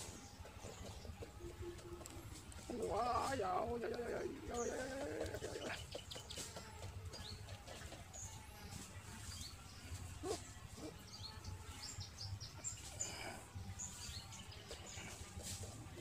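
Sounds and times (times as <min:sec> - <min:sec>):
low outdoor hum: 0:00.0 - 0:16.0
small birds chirping: 0:00.0 - 0:16.0.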